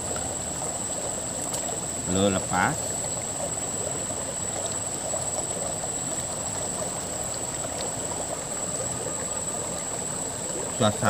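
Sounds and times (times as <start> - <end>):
river flowing over stones: 0.0 - 11.0.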